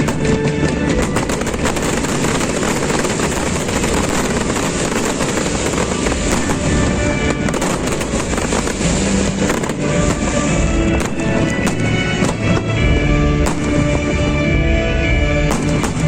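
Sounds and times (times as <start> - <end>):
fireworks crackling and bursting: 0.0 - 16.0
show music: 0.0 - 16.0.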